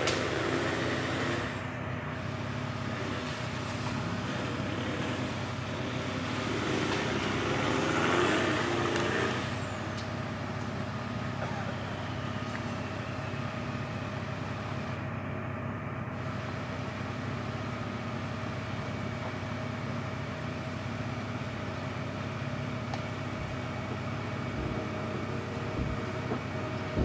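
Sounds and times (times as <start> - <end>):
off-road engine running: 0.0 - 27.0.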